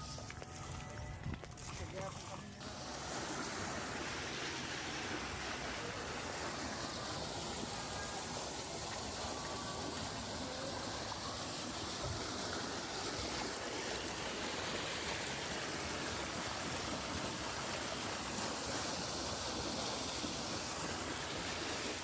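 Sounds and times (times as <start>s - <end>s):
water gushing through sluice gate: 0.0s - 22.0s.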